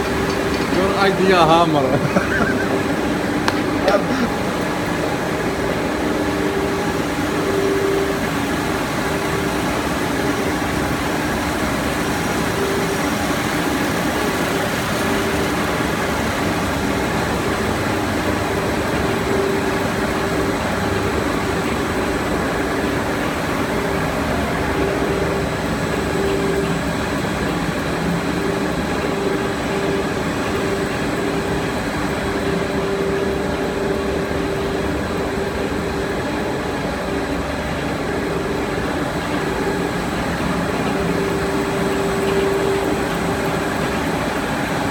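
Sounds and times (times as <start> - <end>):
machine hum and hiss: 0.0 - 44.9
mid-pitched machine whine: 0.0 - 44.9.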